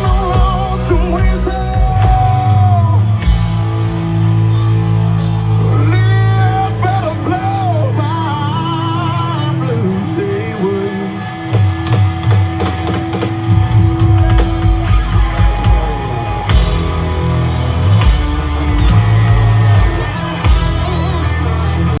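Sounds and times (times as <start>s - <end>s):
country rock band playing: 0.0s - 22.0s.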